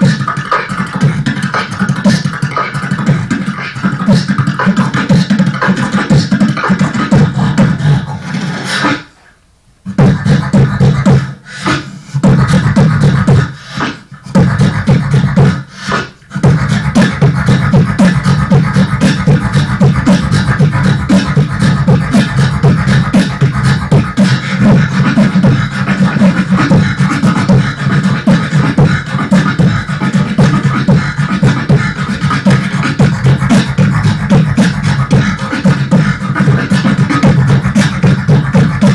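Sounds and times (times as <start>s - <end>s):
person beatboxing: 0.0s - 38.9s.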